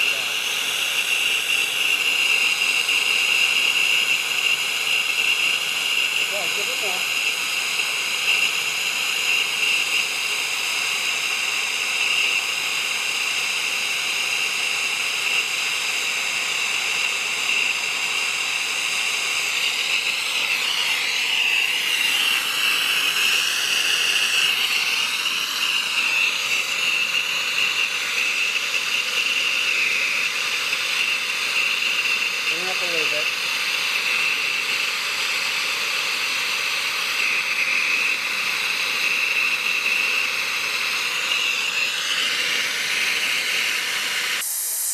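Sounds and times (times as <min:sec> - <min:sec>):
torch flame hissing: 0:00.0 - 0:44.9.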